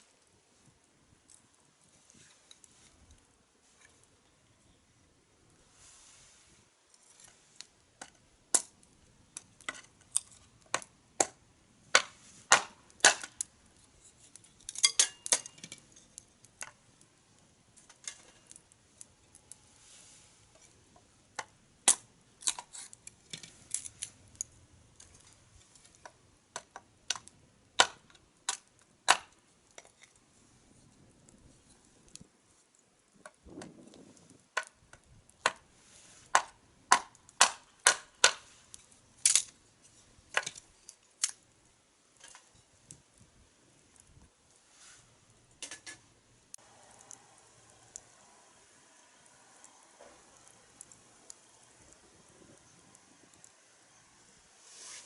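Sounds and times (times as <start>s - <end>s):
firewood crackling: 0.0s - 55.0s.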